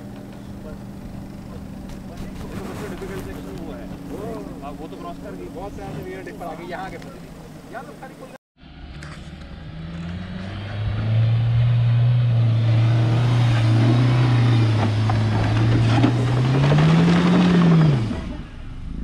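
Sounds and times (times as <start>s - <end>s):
engine droning under load: 0.0s - 19.0s.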